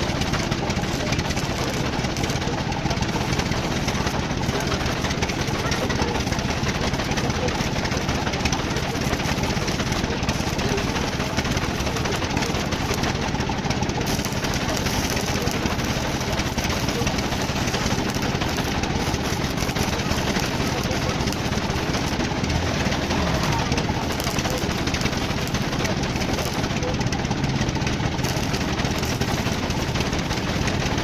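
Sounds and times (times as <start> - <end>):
machine running loudly: 0.0 - 31.0.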